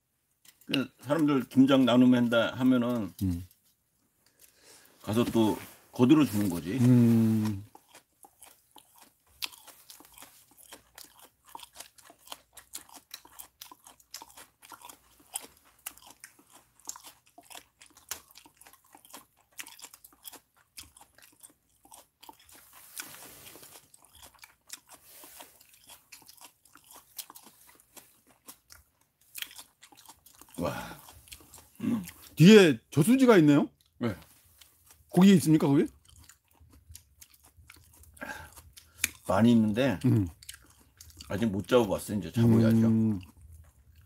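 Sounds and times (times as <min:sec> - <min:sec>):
person chewing food: 0:00.3 - 0:02.0, 0:02.6 - 0:32.4, 0:33.7 - 0:44.0.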